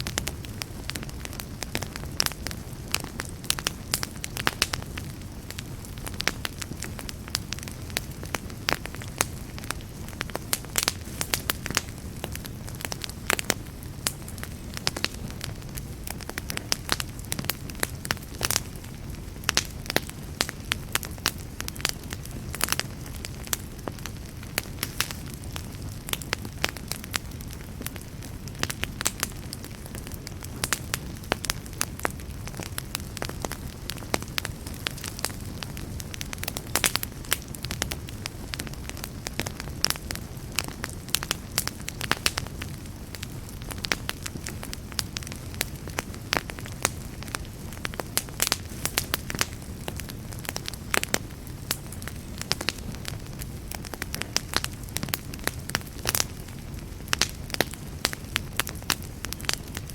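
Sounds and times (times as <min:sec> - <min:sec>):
low rush of fire: 0:00.0 - 0:59.9
wood fire crackling and popping: 0:00.0 - 0:59.9.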